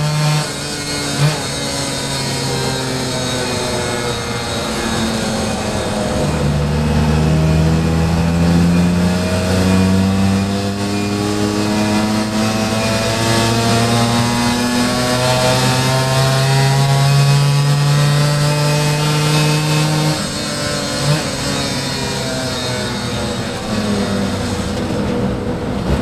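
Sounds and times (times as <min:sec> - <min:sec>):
moped engine at full throttle: 0:00.0 - 0:26.0.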